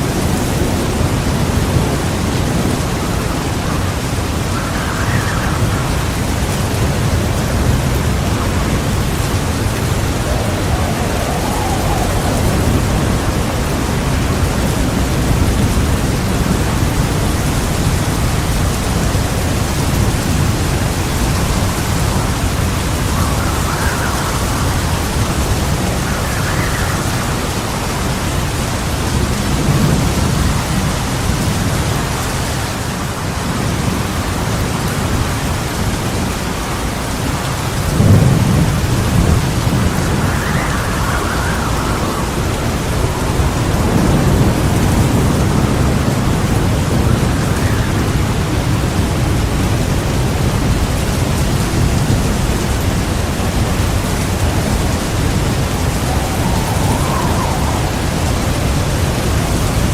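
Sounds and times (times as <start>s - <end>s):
heavy rain: 0.0s - 59.9s
low thunder rumbling: 0.0s - 59.9s.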